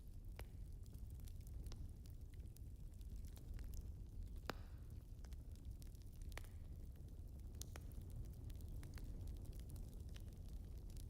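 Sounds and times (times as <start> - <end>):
fire crackles: 0.0 - 11.0
fire low rumble: 0.0 - 11.0.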